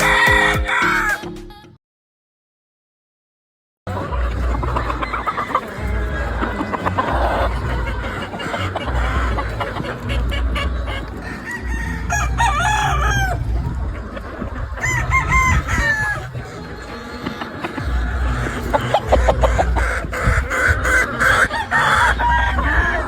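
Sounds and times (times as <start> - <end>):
chickens clucking: 0.0 - 1.4, 3.9 - 23.0
roosters crowing: 0.0 - 1.4, 3.9 - 23.0.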